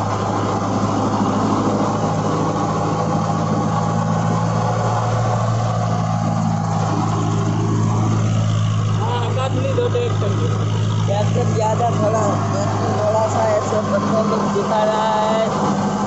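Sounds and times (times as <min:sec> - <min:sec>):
rotavator blades churning soil: 0:00.0 - 0:16.0
tractor diesel engine under load: 0:00.0 - 0:16.0.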